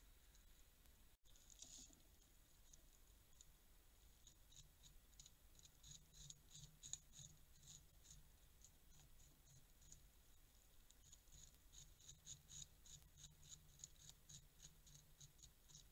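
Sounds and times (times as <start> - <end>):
beavers gnawing and chewing: 1.2 - 15.9.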